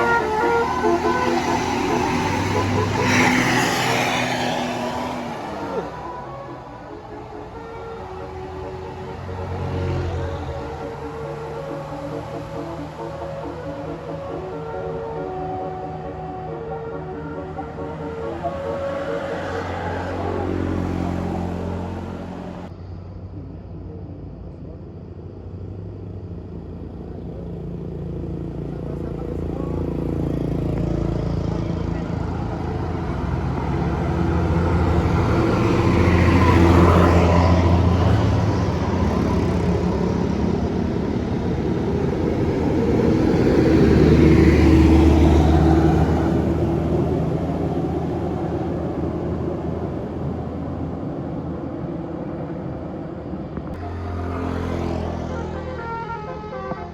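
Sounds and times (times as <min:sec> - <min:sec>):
bus engines labouring uphill: 0:00.0 - 0:56.9.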